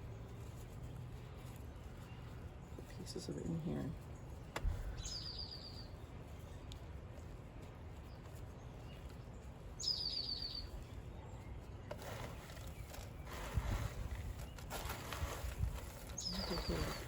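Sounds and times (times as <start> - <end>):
small bird calling: 0.1 - 6.8, 7.6 - 17.0.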